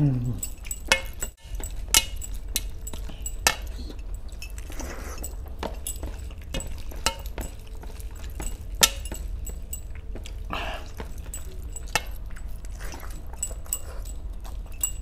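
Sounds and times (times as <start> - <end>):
metal rings clinking on steel plate: 0.2 - 15.0.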